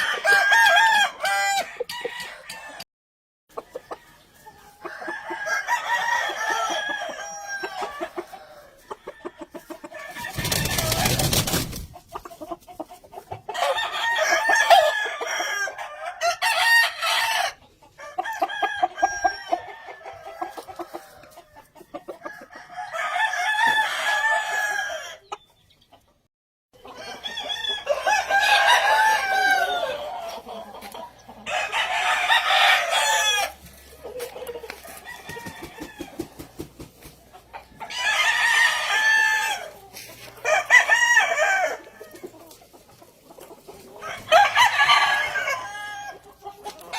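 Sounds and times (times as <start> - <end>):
roosters crowing: 0.0 - 2.8, 3.5 - 12.0, 13.3 - 25.2, 26.8 - 42.4, 43.8 - 46.9
chickens clucking: 3.5 - 16.3, 17.5 - 23.1, 24.5 - 46.9.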